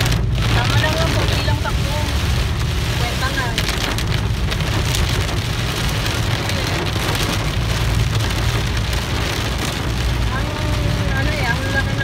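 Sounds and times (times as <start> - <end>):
car low rumble: 0.0 - 12.0
heavy rain on car roof: 0.0 - 12.0.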